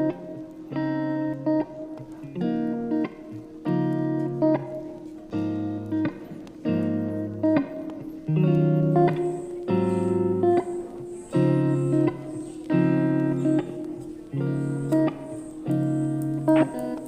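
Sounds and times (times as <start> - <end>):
plucked guitar chords: 0.0 - 17.0.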